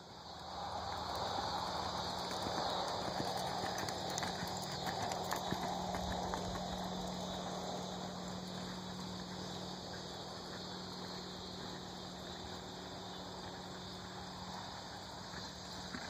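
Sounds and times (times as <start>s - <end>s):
hoofbeats on soft dirt: 0.6s - 16.0s.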